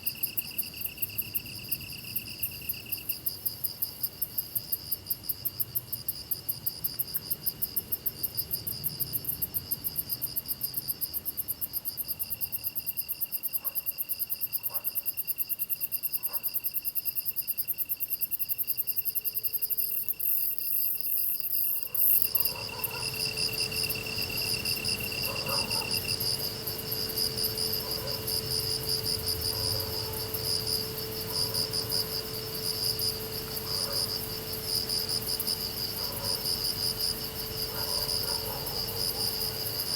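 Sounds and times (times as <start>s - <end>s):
grass insects chirping and trilling: 0.0s - 39.9s.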